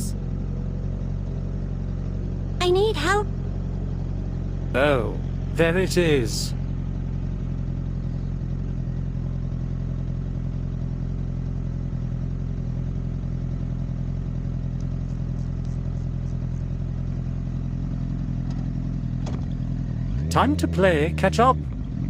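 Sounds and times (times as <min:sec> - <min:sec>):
motorcycle engine idling: 0:00.0 - 0:02.6, 0:03.2 - 0:22.0.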